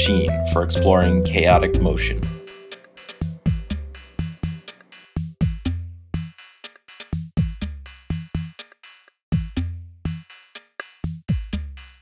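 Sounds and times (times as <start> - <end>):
electronic music with drum machine: 0.0 - 12.0.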